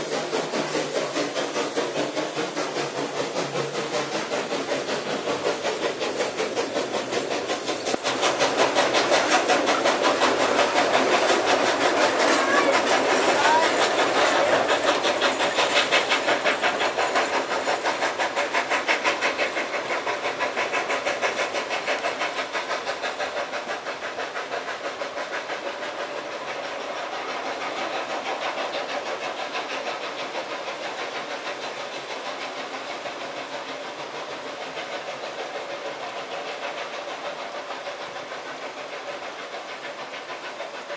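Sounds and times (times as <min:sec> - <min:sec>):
steam train chugging: 0:00.0 - 0:40.9.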